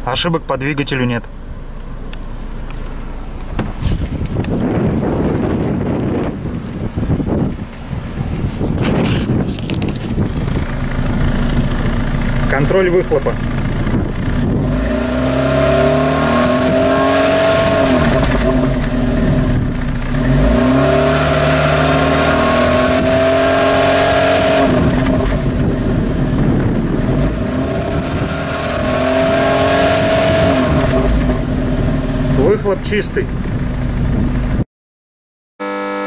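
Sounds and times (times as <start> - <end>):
petrol engine exhaust revving: 0.0 - 34.6.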